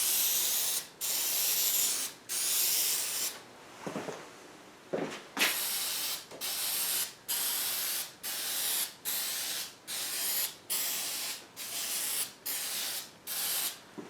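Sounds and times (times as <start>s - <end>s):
aerosol spray can hissing: 0.0s - 3.4s, 5.5s - 13.8s.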